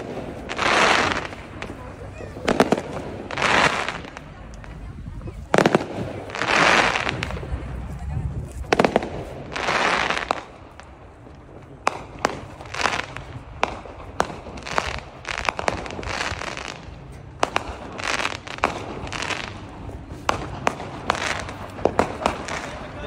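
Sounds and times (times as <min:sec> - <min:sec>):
fireworks bangs and pops: 0:00.0 - 0:23.0
fireworks hissing: 0:00.0 - 0:23.0.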